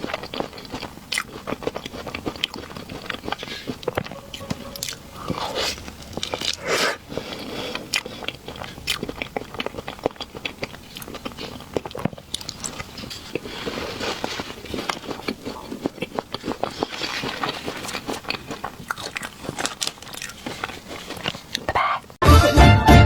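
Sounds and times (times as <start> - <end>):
chewing soft cake: 0.0 - 22.2.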